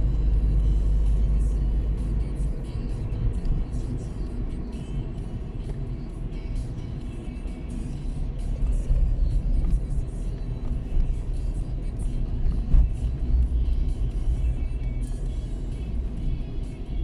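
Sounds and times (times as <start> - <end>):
car road and engine rumble: 0.0 - 17.0
music playing: 0.0 - 17.0.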